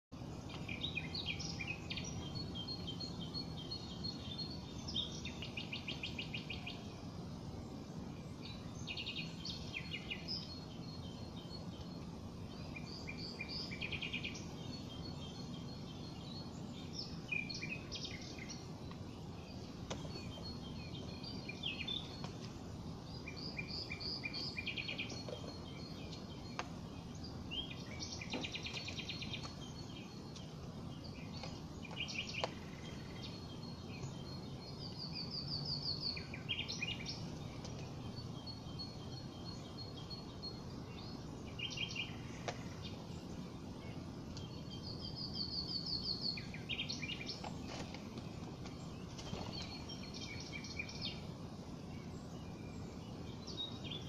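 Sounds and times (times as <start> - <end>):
songbirds chirping and trilling: 0.1 - 54.0.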